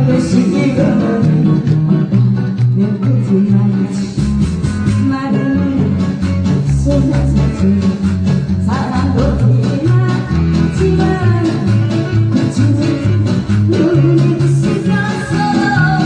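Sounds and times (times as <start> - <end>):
amplified song with beat and bass: 0.0 - 16.0
person singing: 0.0 - 16.0.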